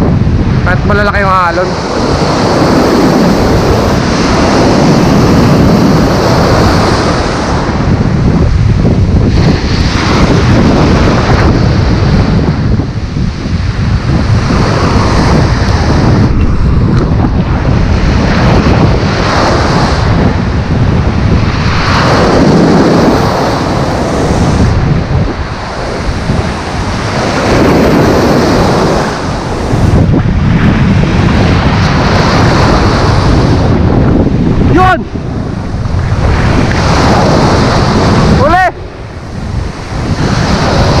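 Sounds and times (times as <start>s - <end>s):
waves breaking on shore: 0.0s - 41.0s
wind buffeting microphone: 0.0s - 41.0s.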